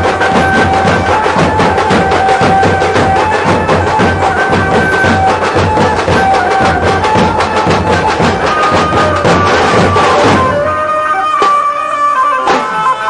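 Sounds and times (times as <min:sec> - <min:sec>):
fast dense drumming: 0:00.0 - 0:10.7.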